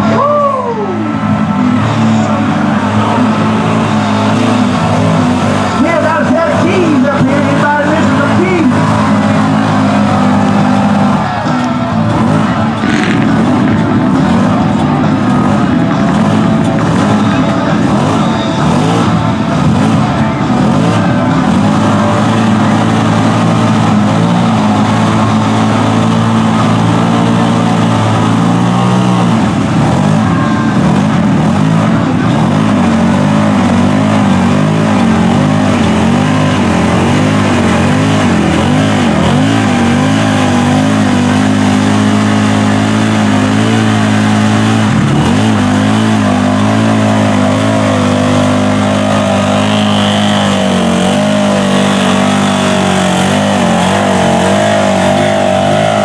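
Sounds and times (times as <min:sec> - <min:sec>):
buggy engine at high revs: 0:00.0 - 0:56.0
tires churning through mud: 0:00.0 - 0:56.0.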